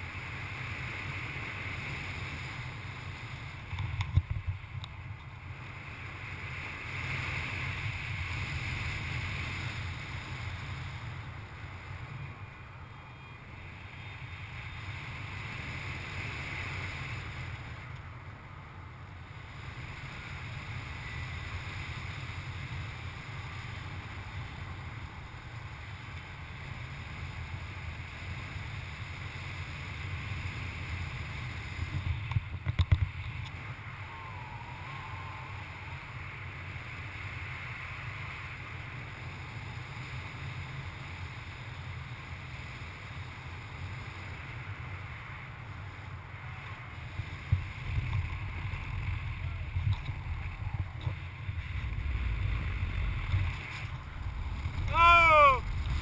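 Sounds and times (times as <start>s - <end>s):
wind rushing over microphone: 0.0s - 12.6s, 18.9s - 41.4s, 43.5s - 56.0s.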